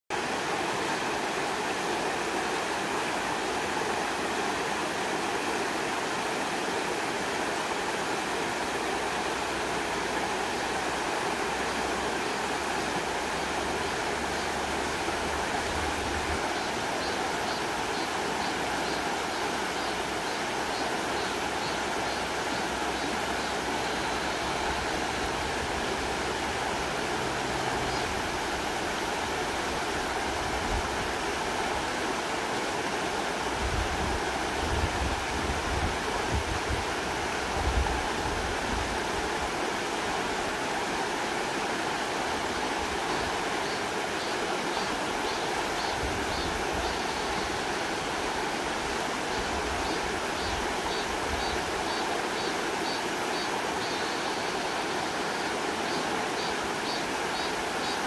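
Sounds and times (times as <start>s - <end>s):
stream rushing over stones: 0.1s - 58.0s.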